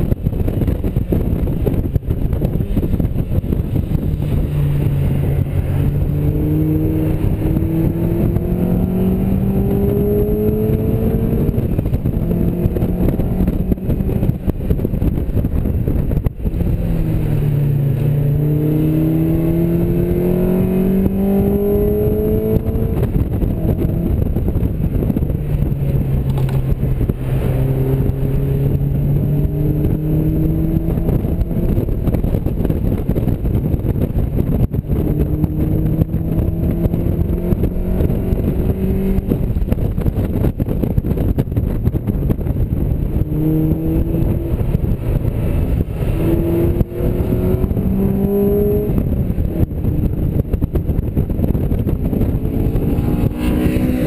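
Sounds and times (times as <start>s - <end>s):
car engine accelerating: 0.0s - 54.0s
wind and road noise: 0.0s - 54.0s.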